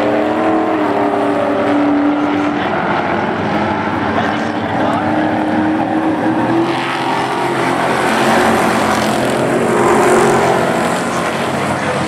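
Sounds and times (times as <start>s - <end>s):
race truck engines passing: 0.0s - 12.0s.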